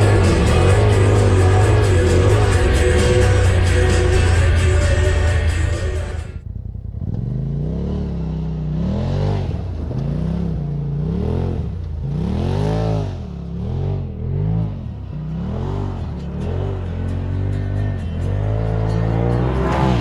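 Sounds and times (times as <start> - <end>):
engine revving: 0.0 - 20.0.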